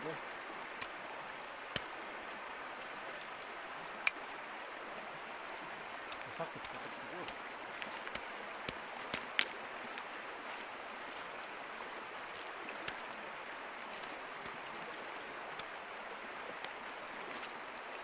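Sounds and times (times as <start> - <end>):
steady high hiss: 0.0 - 18.0
stream rushing over stones: 0.0 - 18.0.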